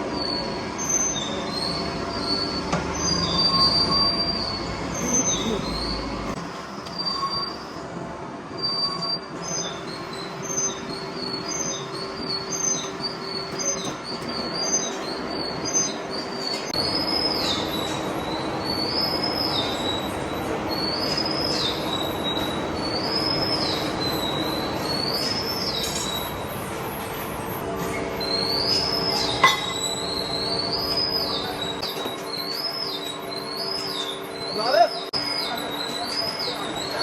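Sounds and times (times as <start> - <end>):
high metallic squeal: 0.0 - 37.0.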